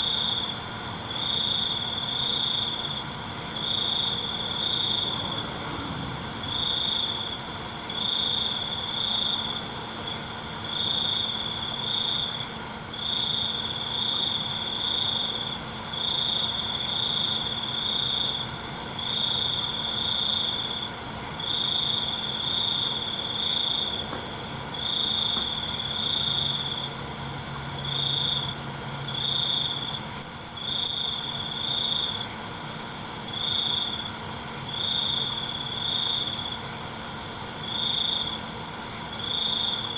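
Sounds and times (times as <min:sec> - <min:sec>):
cricket trilling: 0:00.0 - 0:39.9
insect chorus: 0:00.0 - 0:39.9.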